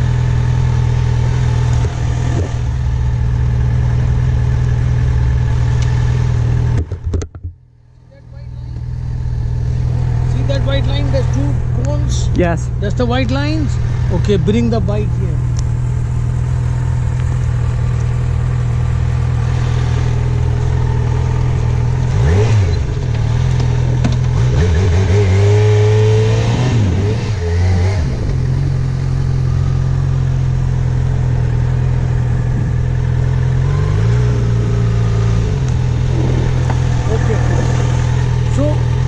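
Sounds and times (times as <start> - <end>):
motorcycle engine idling and revving: 0.0 - 39.0.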